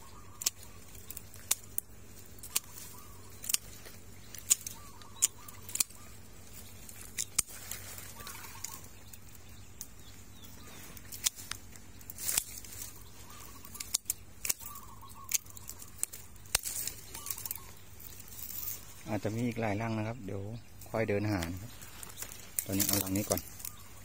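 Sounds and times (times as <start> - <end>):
twigs and leaves snapping: 0.0 - 24.0.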